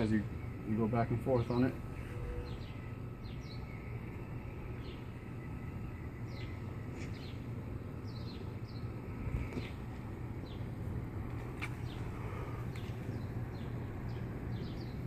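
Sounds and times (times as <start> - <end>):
birds chirping: 0.0 - 15.0
low background hum: 0.0 - 15.0.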